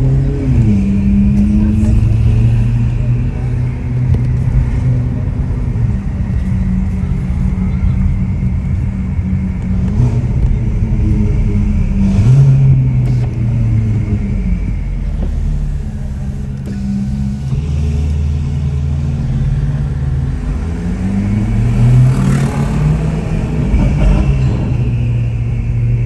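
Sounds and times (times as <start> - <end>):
sports car engine accelerating: 0.0 - 26.0.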